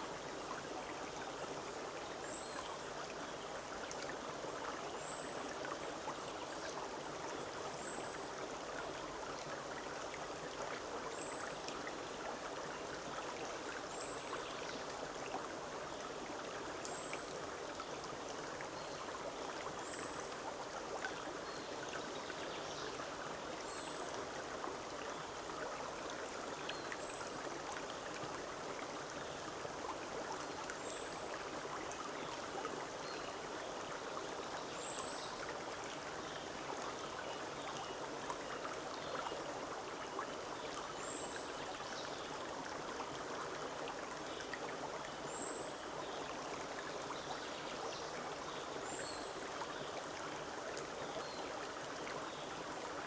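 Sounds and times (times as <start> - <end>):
stream running over stones: 0.0 - 53.0.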